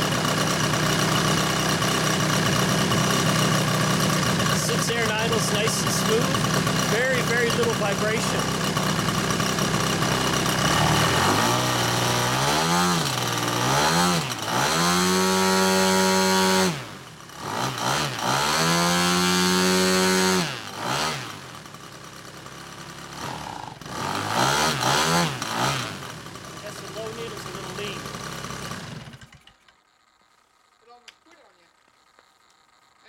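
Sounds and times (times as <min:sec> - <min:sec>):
model aircraft engine revving: 0:00.0 - 0:33.0.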